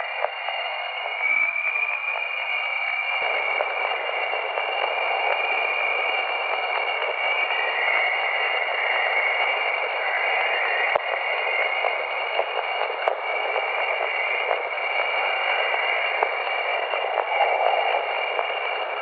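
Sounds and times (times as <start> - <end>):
constant high tones: 0.0 - 19.0
steady hiss: 0.0 - 19.0.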